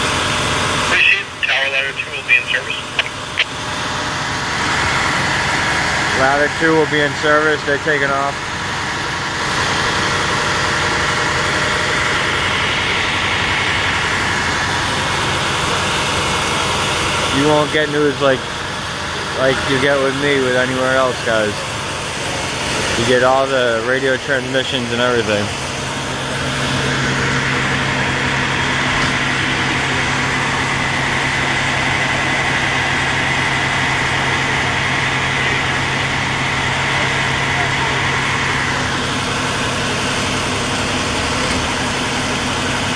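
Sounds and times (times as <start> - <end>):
fire truck diesel engine running: 0.0 - 42.9.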